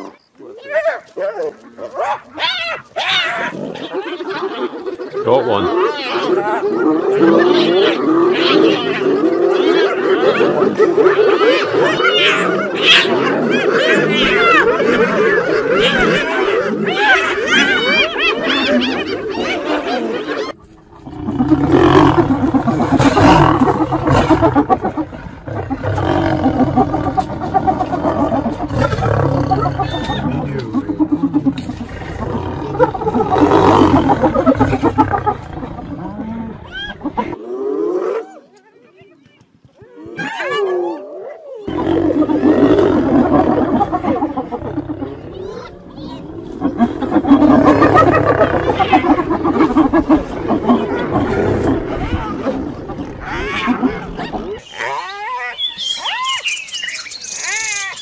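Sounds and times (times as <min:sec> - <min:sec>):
lions growling and snarling: 0:01.4 - 0:38.3, 0:39.8 - 0:55.5.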